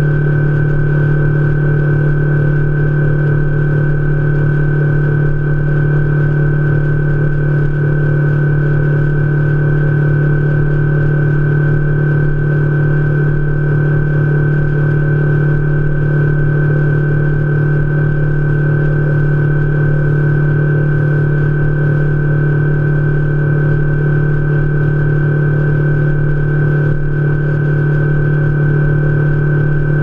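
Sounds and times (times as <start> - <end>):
outboard motor droning: 0.0 - 30.0.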